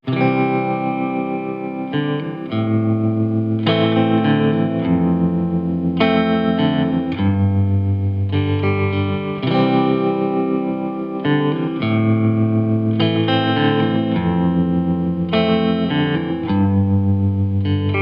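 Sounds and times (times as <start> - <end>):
guitar chords through effects: 0.0 - 18.0.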